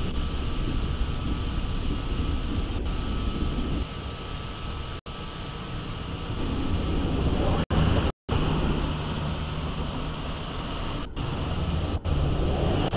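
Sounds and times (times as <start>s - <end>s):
freight train rolling on rails: 0.0s - 12.9s.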